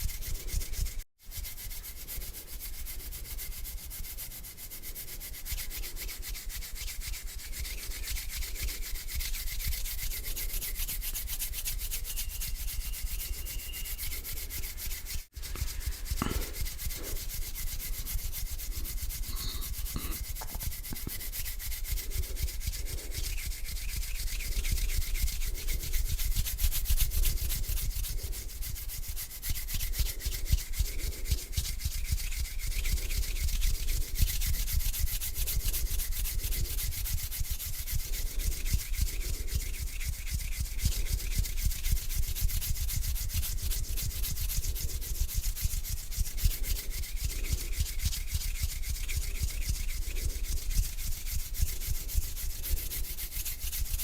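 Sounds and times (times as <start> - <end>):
hands rubbing together: 0.0 - 54.0.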